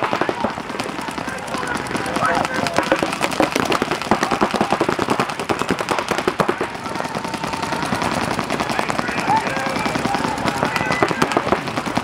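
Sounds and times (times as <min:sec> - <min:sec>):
paintball guns firing rapidly: 0:00.0 - 0:12.0.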